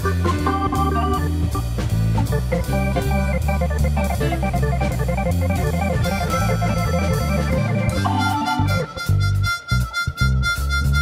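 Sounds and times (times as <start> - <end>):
organ-like lead: 0.0 - 10.6
bass line: 0.0 - 11.0.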